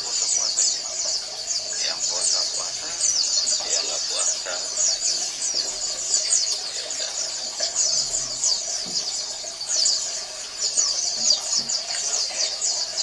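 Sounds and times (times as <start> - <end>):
flock of birds twittering: 0.0 - 13.0.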